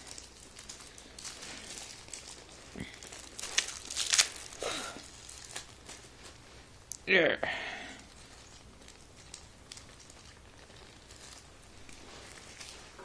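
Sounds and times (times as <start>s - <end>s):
packaging rustles: 0.0s - 7.0s, 8.0s - 13.0s.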